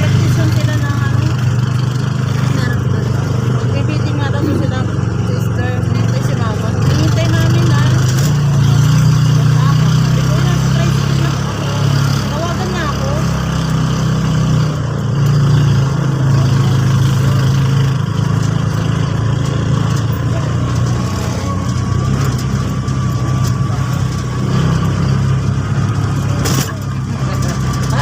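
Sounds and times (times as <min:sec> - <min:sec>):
vehicle engine droning: 0:00.0 - 0:28.0.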